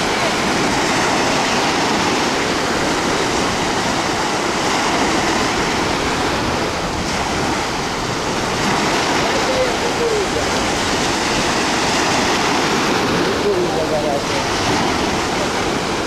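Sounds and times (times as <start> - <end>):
sea waves washing in shallows: 0.0 - 16.0.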